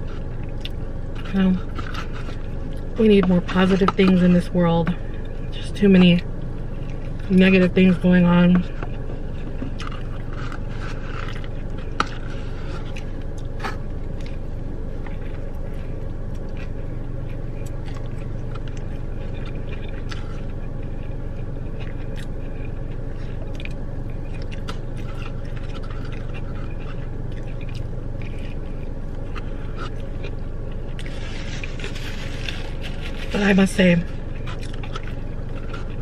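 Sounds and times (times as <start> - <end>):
car cabin hum: 0.0 - 36.0
chewing and biting sandwich: 0.0 - 36.0.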